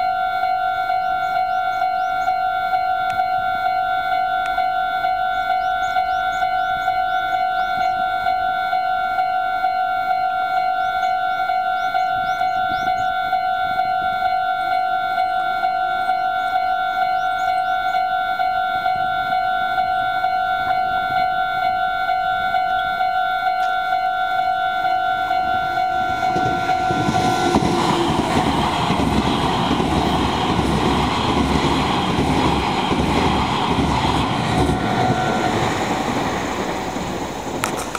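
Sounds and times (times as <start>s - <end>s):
level crossing alarm ringing: 0.0s - 37.9s
train wheels rumbling on rails: 0.0s - 37.9s.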